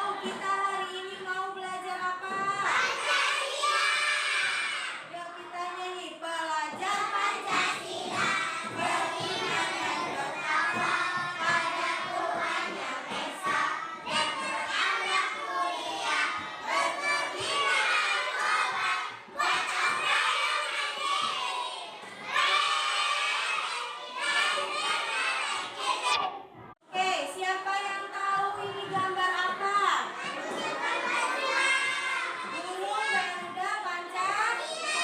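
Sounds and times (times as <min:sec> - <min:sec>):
children shouting and chattering: 0:00.0 - 0:05.1, 0:06.8 - 0:26.5, 0:29.5 - 0:35.0.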